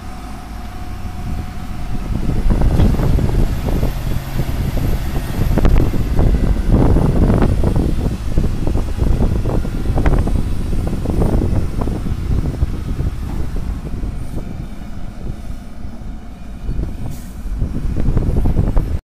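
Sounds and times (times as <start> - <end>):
excavator working: 0.0 - 19.0
heavy diesel engines running: 0.0 - 19.0
truck knocks and rattles: 0.3 - 19.0.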